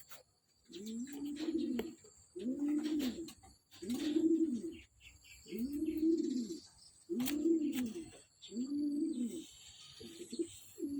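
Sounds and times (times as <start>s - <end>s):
pigeon cooing: 0.7s - 4.9s, 5.5s - 10.9s.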